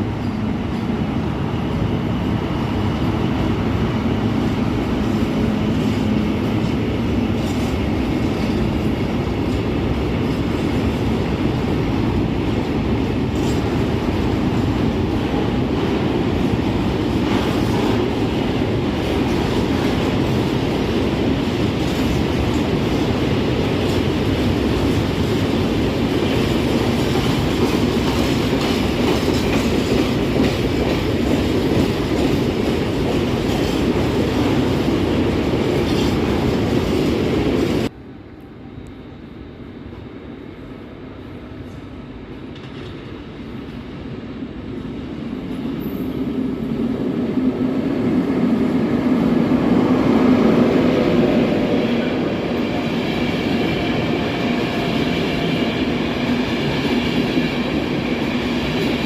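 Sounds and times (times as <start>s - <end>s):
train wheels rumbling on rails: 0.0s - 38.0s, 39.8s - 59.0s.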